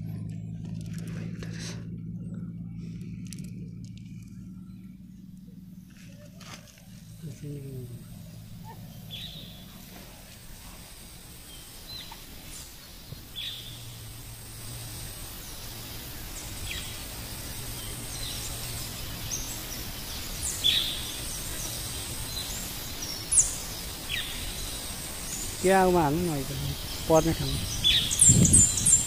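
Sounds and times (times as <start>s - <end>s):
bird calling: 0.0s - 29.0s.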